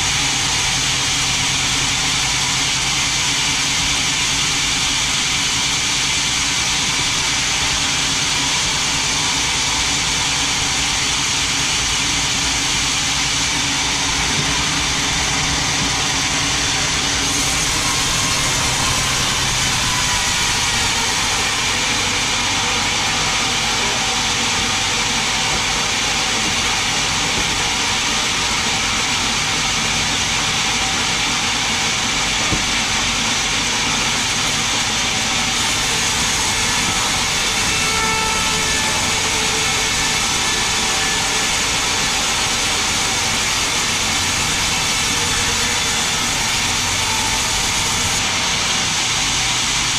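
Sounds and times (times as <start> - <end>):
band sawmill cutting log: 0.0 - 49.9.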